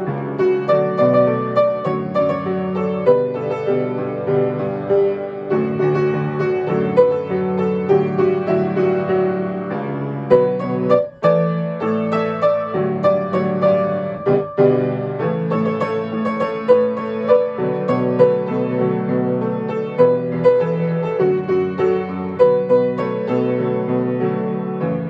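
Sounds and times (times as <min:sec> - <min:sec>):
solo piano pop arrangement: 0:00.0 - 0:25.0.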